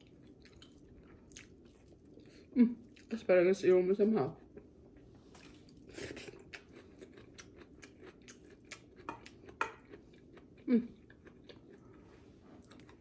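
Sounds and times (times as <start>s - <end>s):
person chewing crunchy food: 0.0s - 3.1s, 4.4s - 13.0s.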